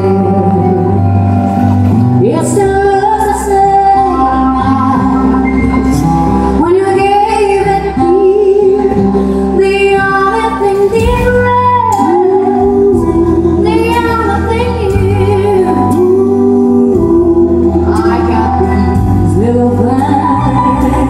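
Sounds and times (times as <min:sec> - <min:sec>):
band playing: 0:00.0 - 0:21.0
steady bass line: 0:00.0 - 0:21.0
woman singing into a microphone: 0:00.0 - 0:21.0.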